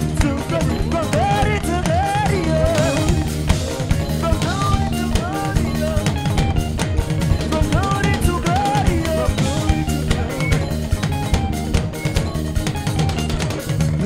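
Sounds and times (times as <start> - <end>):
drum kit beat: 0.0 - 14.0
melody with sliding notes: 0.0 - 14.0.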